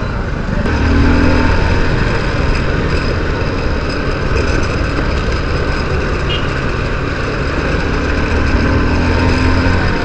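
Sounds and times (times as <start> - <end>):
deep engine drone: 0.0 - 10.0
road and traffic noise: 0.0 - 10.0
motorcycle engine running: 0.7 - 10.0.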